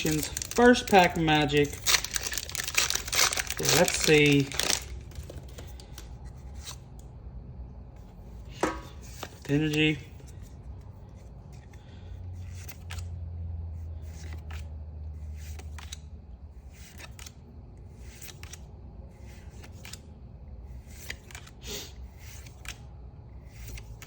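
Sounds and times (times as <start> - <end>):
trading cards clicking and rustling: 0.0 - 6.9, 8.5 - 13.1, 14.0 - 16.1, 16.7 - 24.0.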